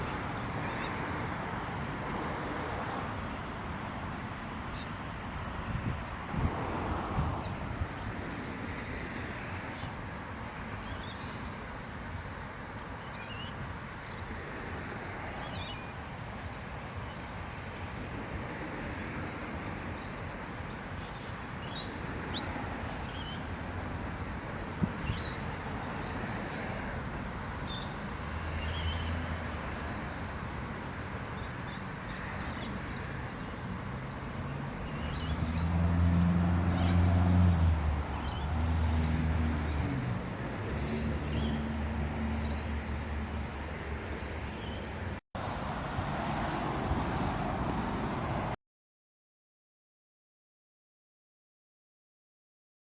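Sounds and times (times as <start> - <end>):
outdoor noise: 0.0 - 48.6.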